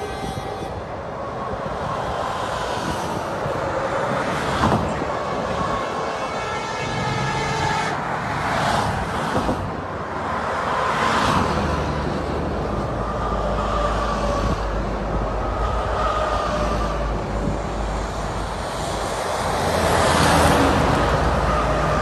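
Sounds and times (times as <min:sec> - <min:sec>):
heavy vehicle engine drone: 0:00.0 - 0:22.0
car passing: 0:01.5 - 0:22.0.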